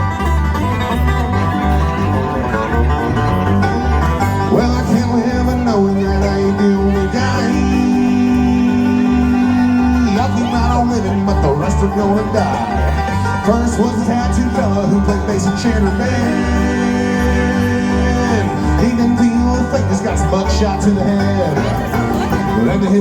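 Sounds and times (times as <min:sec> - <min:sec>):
banjo picking: 0:00.0 - 0:23.0
bass line: 0:00.0 - 0:23.0
bluegrass band playing: 0:00.0 - 0:23.0.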